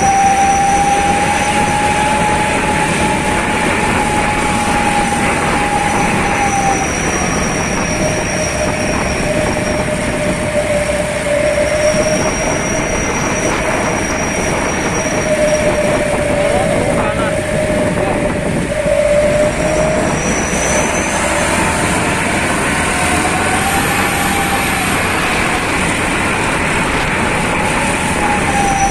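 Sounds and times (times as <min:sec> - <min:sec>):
steady whine: 0:00.0 - 0:28.9
wind noise: 0:00.0 - 0:28.9.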